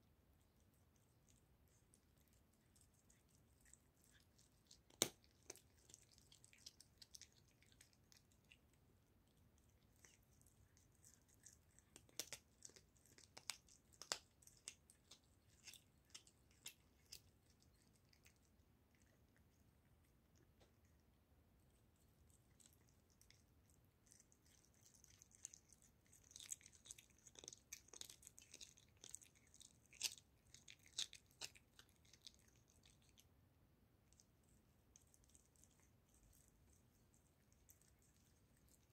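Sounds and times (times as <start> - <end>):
cat chewing and crunching bone: 0.0 - 38.9.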